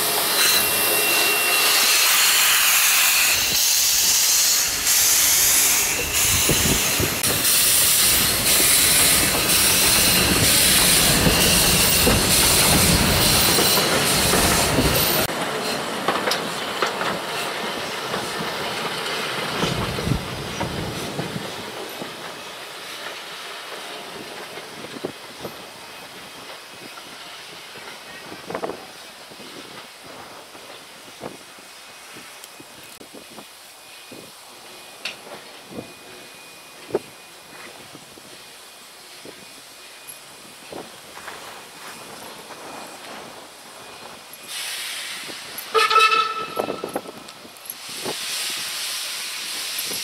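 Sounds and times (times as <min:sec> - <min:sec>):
steam locomotive hissing: 0:00.0 - 0:50.0
train wheels clicking on rails: 0:00.0 - 0:50.0.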